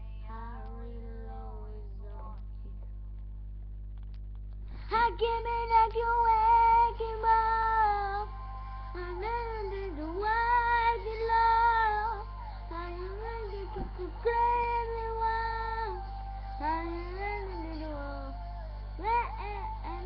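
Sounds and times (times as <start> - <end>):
girl singing unaccompanied: 0.0 - 2.5, 4.8 - 20.0
steady low hum: 0.0 - 20.0.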